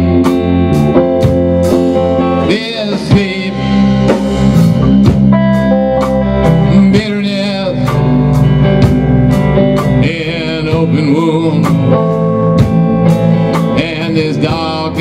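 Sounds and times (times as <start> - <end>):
drum kit beat: 0.0 - 15.0
electric guitars bending notes: 0.0 - 15.0.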